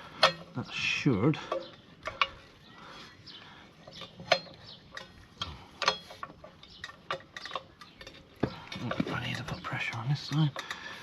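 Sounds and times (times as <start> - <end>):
hand tools clicking on metal: 0.0 - 0.6, 1.3 - 2.5, 3.8 - 11.0.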